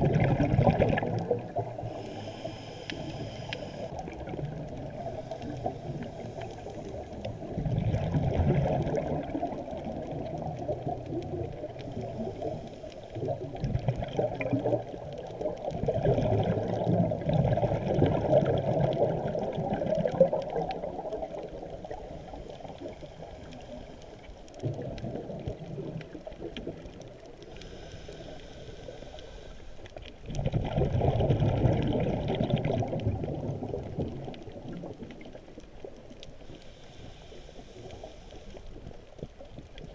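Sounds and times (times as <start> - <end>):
muffled underwater bubbling: 0.0 - 39.9.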